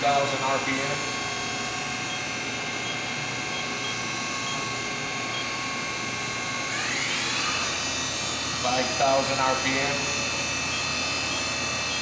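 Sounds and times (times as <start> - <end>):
machine spindle whine: 0.0 - 12.0.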